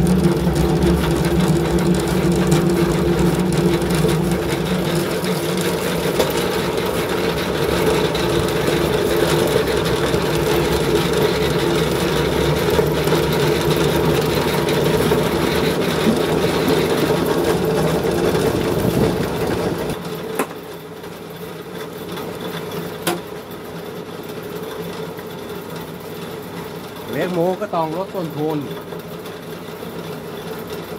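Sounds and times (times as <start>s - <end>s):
pellet machine humming: 0.0s - 30.9s.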